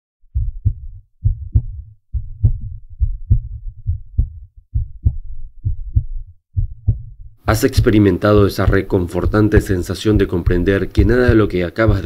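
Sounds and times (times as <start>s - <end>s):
heartbeat double thump: 0.2s - 12.0s.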